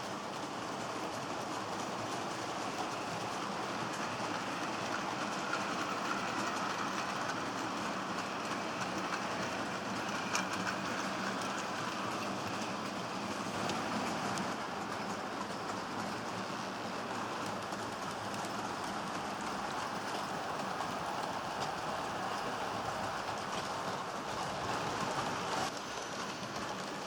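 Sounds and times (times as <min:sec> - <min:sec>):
model train wheels rattling: 0:00.0 - 0:27.0.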